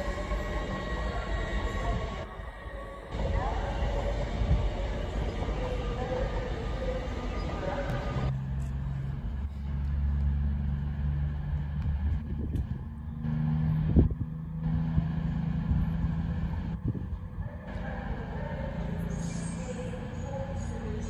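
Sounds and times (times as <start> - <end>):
train engine droning: 0.0 - 21.0.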